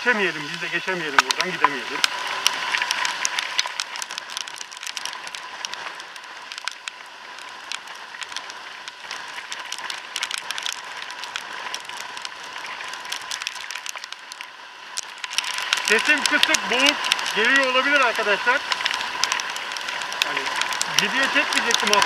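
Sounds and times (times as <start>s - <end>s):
raindrops ticking on helmet: 0.0s - 22.0s
steady hiss: 0.0s - 22.0s.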